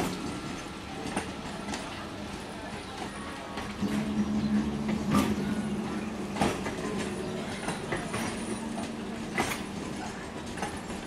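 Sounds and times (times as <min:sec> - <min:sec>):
train hum and rumble: 0:00.0 - 0:11.0
wheel clacks over rail joints: 0:00.0 - 0:11.0.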